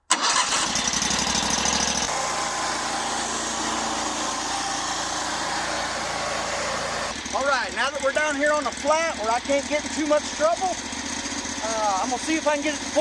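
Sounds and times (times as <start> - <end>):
small engine running: 0.1 - 13.0.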